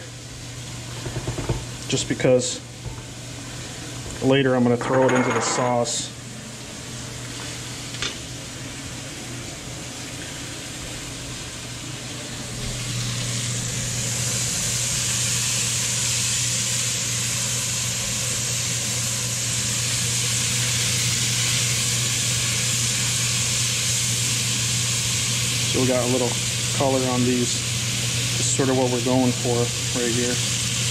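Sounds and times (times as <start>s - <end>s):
vegetables sizzling in a pot: 0.0s - 4.5s, 5.7s - 30.9s.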